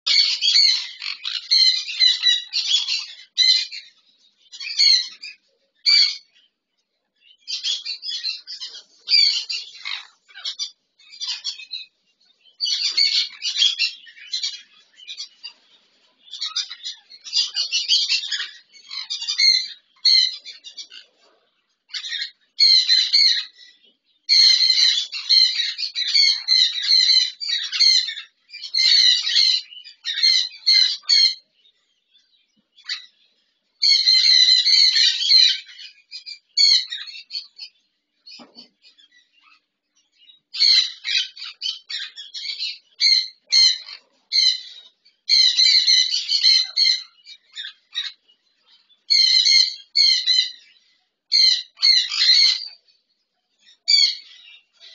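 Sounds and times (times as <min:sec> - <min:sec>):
parrots screeching: 0:00.1 - 0:06.4, 0:07.5 - 0:11.9, 0:12.6 - 0:15.6, 0:16.3 - 0:21.3, 0:21.9 - 0:31.5, 0:32.8 - 0:33.2, 0:33.8 - 0:37.7, 0:38.3 - 0:52.8, 0:53.6 - 0:54.9.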